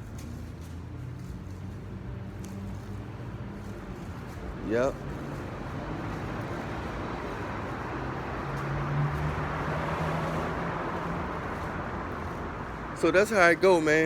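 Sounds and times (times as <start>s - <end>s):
road traffic hiss and hum: 0.0s - 14.0s.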